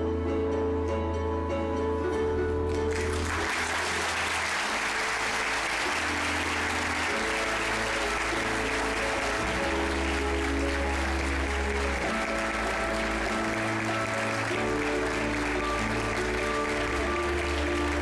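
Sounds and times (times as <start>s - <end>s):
music with long held notes: 0.0s - 18.0s
audience applauding: 2.7s - 18.0s.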